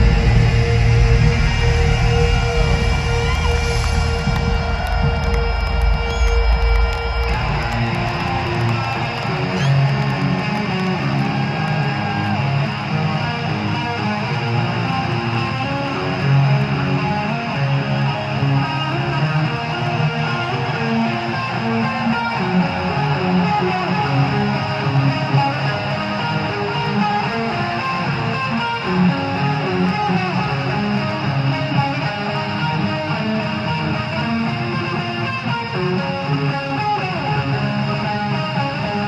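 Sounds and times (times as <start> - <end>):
electric guitar held notes: 0.0 - 39.0
live heavy metal band: 0.0 - 39.0.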